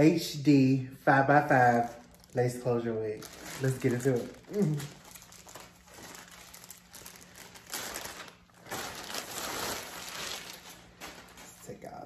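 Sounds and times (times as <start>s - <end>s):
plastic bag crinkling: 1.5s - 12.0s.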